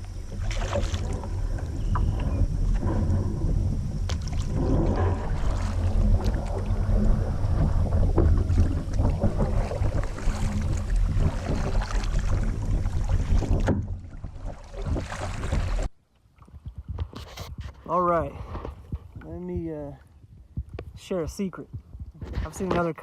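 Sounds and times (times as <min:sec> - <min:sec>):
water noise: 0:00.0 - 0:23.0
wind rumble on microphone: 0:00.0 - 0:23.0.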